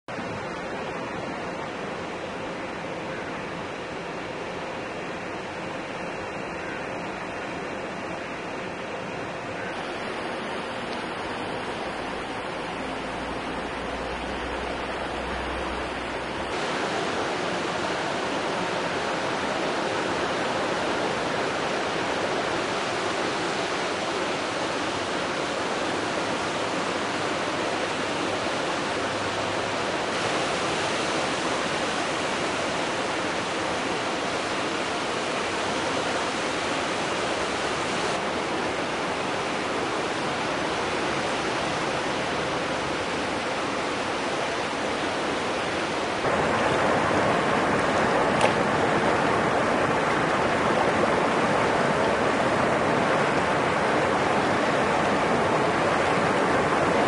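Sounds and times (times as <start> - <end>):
floodwater rushing: 0.1 - 57.0.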